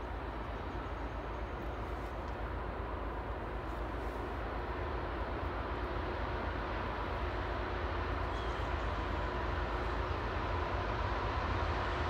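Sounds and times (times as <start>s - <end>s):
distant freight train rumble: 0.0s - 12.0s.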